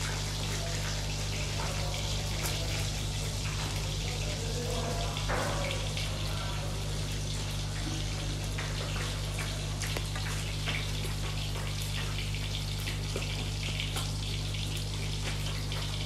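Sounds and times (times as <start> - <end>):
water dripping and splashing: 0.0 - 16.0
water running into a sink: 0.0 - 16.0.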